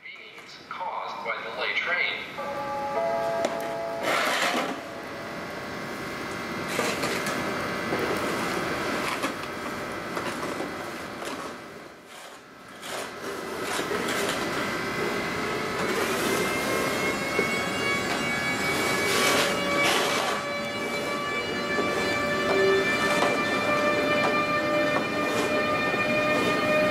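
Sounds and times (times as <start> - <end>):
rising electric whine: 2.4 - 11.9, 13.6 - 26.9
locomotive machinery whir: 2.4 - 26.9.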